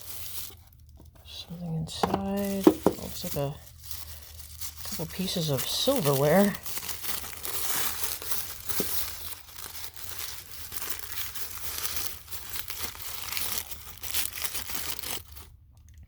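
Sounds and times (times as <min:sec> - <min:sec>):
packaging rustling and crinkling: 0:00.0 - 0:15.6.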